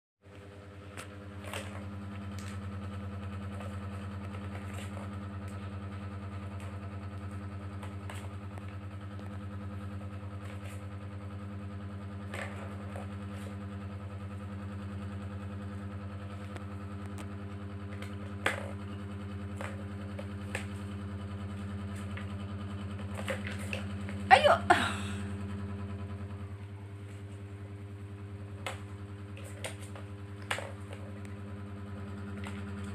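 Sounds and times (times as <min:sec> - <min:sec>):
low machine hum: 0:00.2 - 0:32.9.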